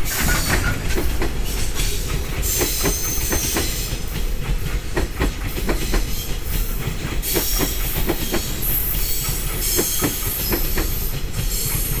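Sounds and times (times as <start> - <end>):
train rumble: 0.0 - 12.0
train wheels clacking over joints: 0.0 - 12.0.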